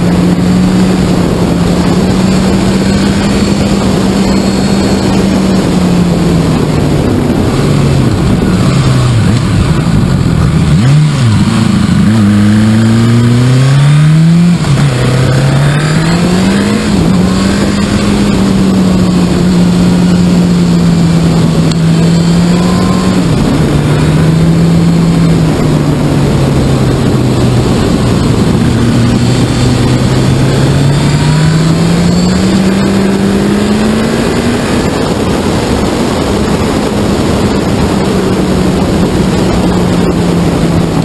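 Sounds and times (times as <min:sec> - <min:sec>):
motorcycle engine accelerating: 0:00.0 - 0:41.0
wind and road noise: 0:00.0 - 0:41.0.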